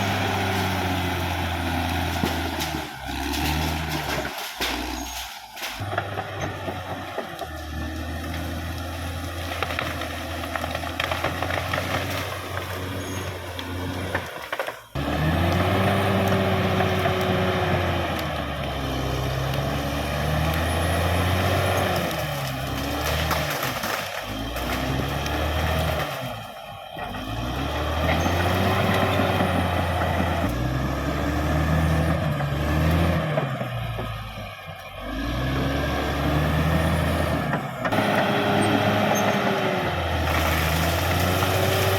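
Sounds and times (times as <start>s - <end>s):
bulldozer diesel engine under load: 0.0s - 41.9s.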